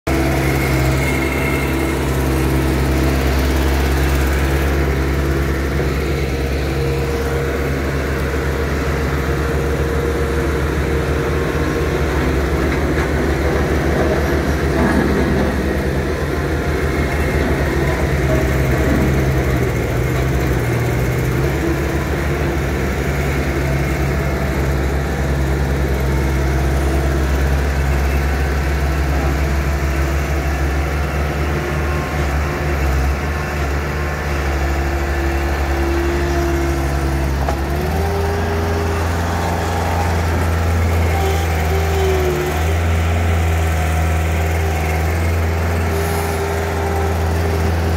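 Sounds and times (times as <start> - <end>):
diesel loader engine running: 0.1 - 47.9.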